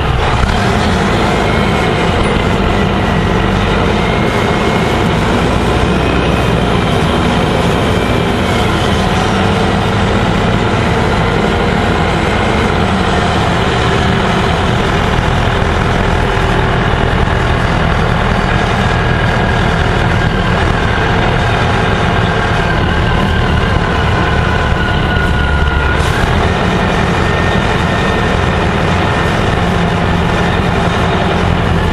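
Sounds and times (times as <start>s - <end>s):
bus diesel engine and road noise: 0.0s - 31.9s.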